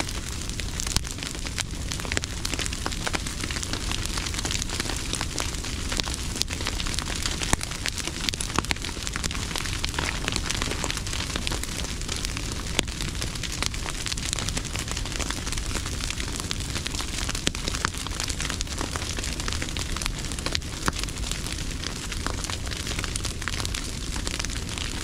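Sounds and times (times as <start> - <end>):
grass fire crackling: 0.0 - 25.0.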